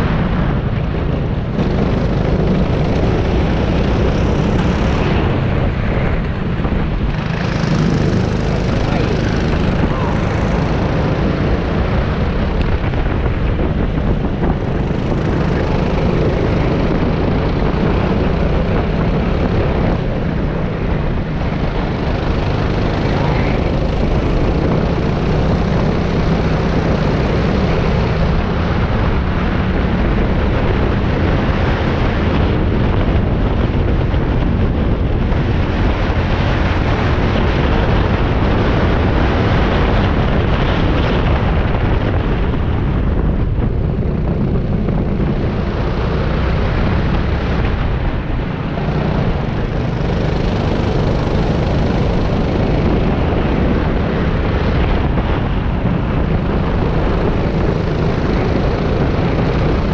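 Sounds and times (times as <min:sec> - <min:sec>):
kart engine running hard: 0:00.0 - 0:59.9
wind noise on microphone: 0:00.0 - 0:59.9.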